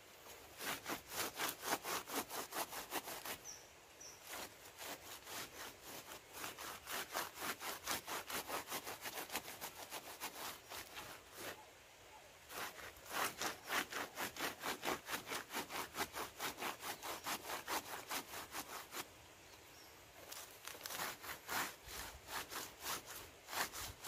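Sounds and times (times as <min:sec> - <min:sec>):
rhythmic rubbing of plant strands: 0:00.0 - 0:03.5, 0:04.2 - 0:11.7, 0:12.5 - 0:19.1, 0:20.2 - 0:24.0.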